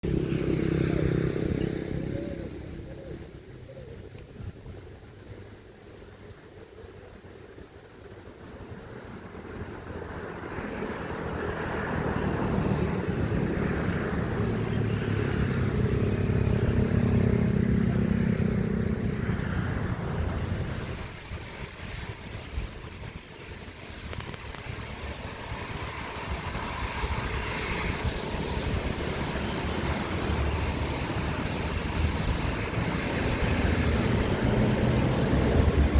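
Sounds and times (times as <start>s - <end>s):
jet airliner engines passing: 0.0s - 35.9s.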